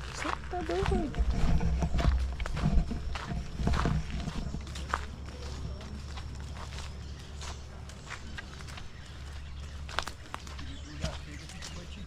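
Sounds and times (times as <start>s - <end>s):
footsteps on trail: 0.0s - 12.0s
steady low rumble: 0.0s - 12.0s.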